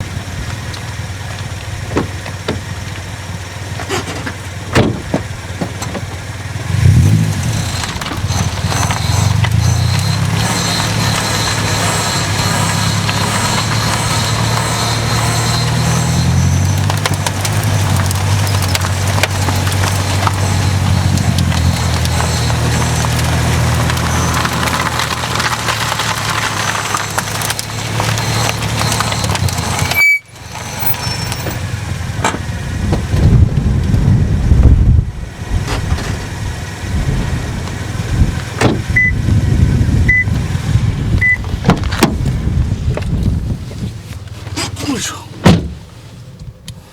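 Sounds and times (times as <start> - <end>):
uneven low rumbling: 0.0 - 46.7
car driving low drone: 0.0 - 46.9.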